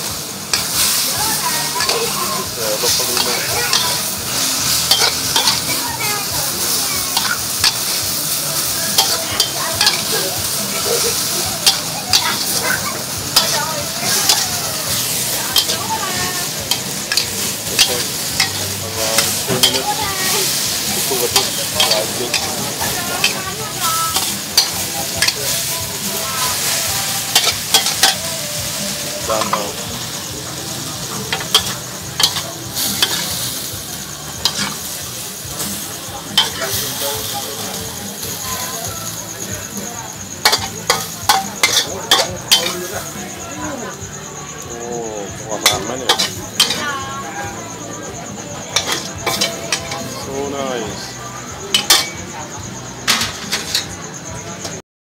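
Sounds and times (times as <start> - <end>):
food sizzling in a wok: 0.0 - 54.8
metal spatula scraping a pan: 0.1 - 38.5, 39.2 - 43.4, 45.6 - 47.1, 48.7 - 51.1, 51.7 - 52.3, 53.1 - 54.0.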